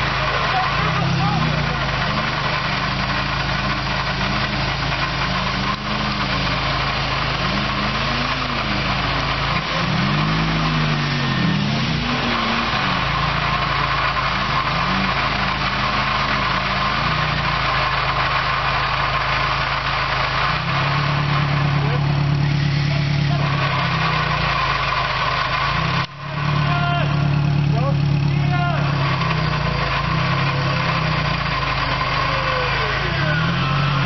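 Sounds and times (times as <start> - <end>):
off-road engine revving: 0.0 - 34.0.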